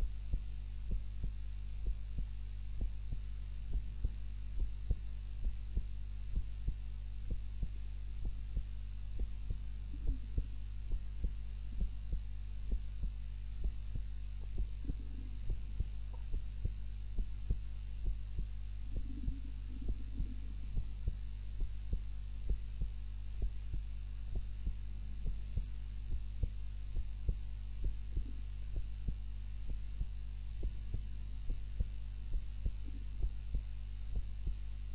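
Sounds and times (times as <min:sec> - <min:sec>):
slow heartbeat: 0:00.0 - 0:34.9
steady low hum: 0:00.0 - 0:34.9.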